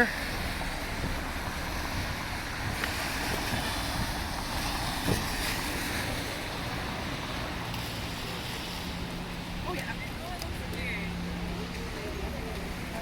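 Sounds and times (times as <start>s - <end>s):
wind buffeting microphone: 0.0s - 10.8s
city traffic: 0.0s - 13.0s.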